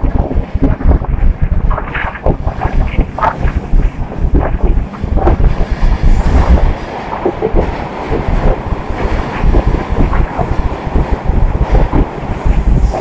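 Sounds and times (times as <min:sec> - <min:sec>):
knocks and rattles: 0:00.0 - 0:13.0
train wheels rumbling on rails: 0:00.0 - 0:13.0.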